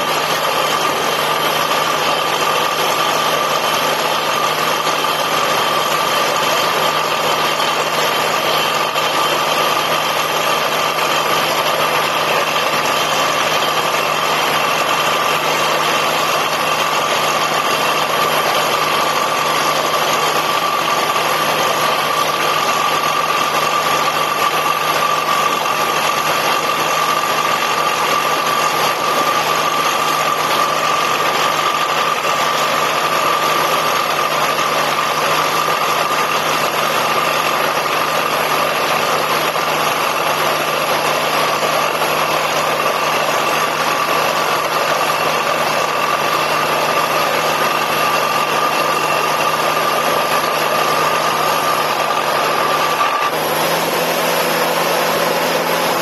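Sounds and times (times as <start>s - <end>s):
drilling rig engine: 0.0s - 56.0s.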